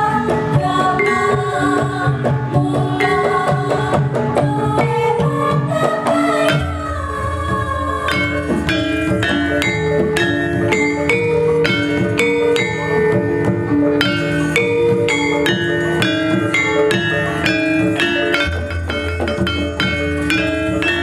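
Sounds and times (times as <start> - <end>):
gamelan ensemble playing: 0.0 - 21.0.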